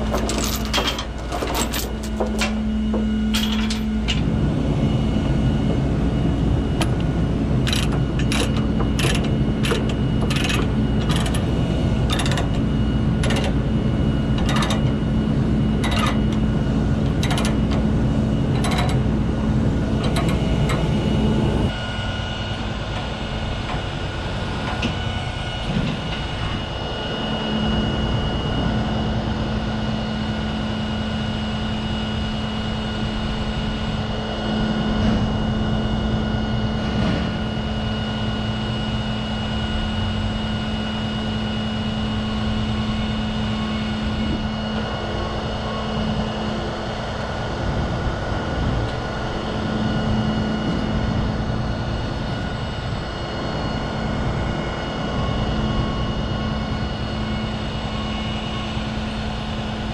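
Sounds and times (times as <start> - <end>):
heavy diesel engine running: 0.0 - 59.9
high-pitched whine: 0.0 - 59.9.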